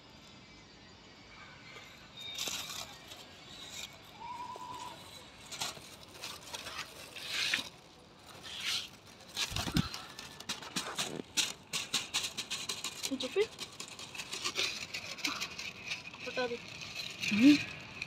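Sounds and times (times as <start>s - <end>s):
paper rustling and crackling: 2.3s - 18.0s.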